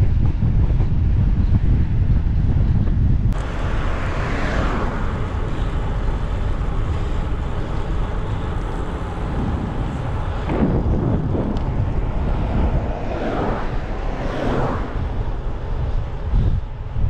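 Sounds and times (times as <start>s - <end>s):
low rumble: 0.0s - 17.0s
passing traffic: 0.0s - 17.0s
wind rushing over microphone: 0.0s - 17.0s.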